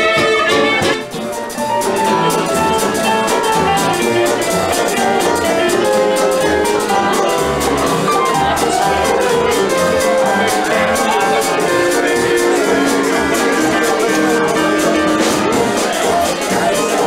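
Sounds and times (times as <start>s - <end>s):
jazz band playing: 0.0s - 17.0s
pulsing bass line: 0.0s - 17.0s.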